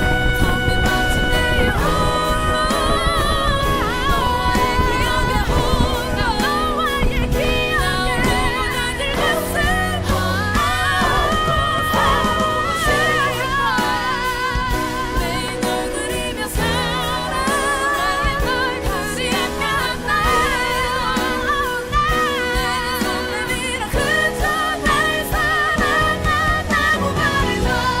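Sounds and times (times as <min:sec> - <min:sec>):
instrumental backing music: 0:00.0 - 0:28.0
person singing with vibrato: 0:00.0 - 0:28.0.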